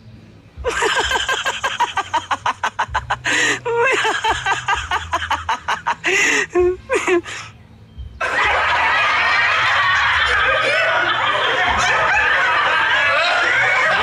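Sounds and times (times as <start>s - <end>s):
crowd laughing: 0.6s - 7.5s, 8.2s - 14.0s.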